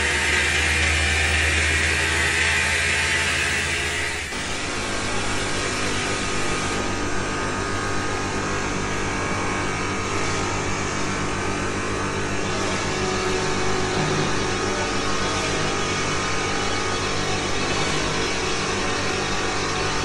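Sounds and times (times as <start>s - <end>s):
machinery motor hum and whir: 0.0s - 20.0s.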